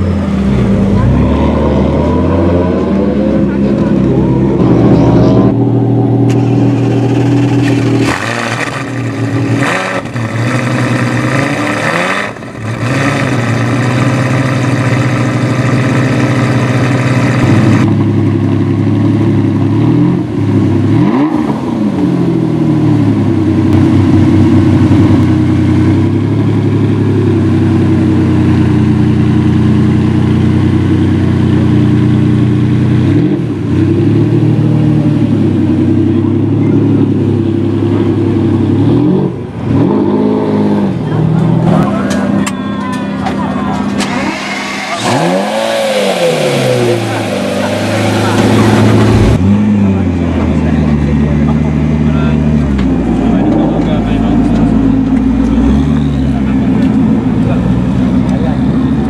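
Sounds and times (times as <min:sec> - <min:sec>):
supercar engines revving: 0:00.0 - 0:59.0.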